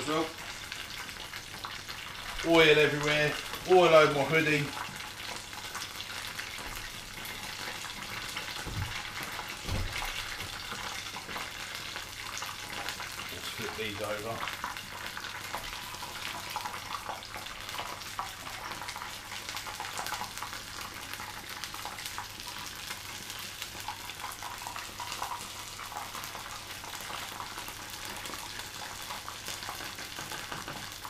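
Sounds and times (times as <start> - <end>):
chicken frying in hot oil: 0.0 - 31.0.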